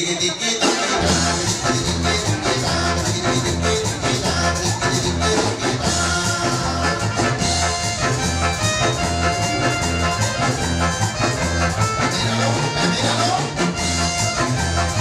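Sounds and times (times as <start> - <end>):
latin dance music with brass: 0.0 - 15.0.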